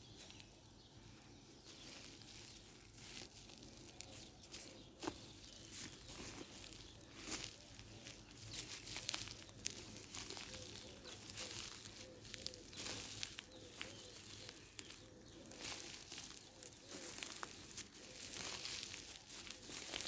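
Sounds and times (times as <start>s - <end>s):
rustling and crackling: 1.6s - 20.0s.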